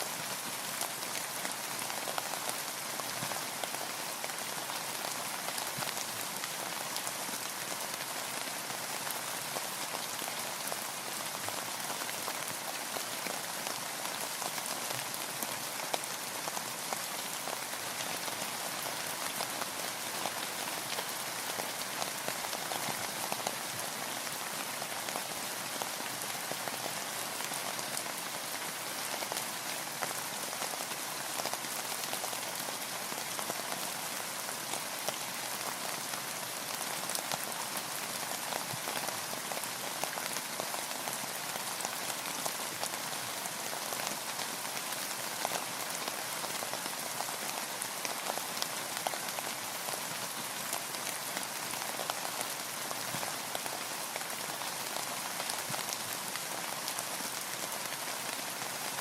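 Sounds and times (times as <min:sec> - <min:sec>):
rain falling on boat and water: 0:00.0 - 0:59.0.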